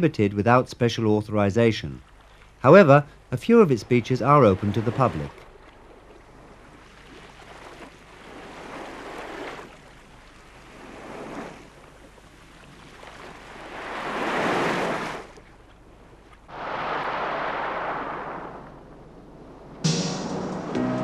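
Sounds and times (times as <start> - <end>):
small waves washing on beach: 2.0 - 19.9.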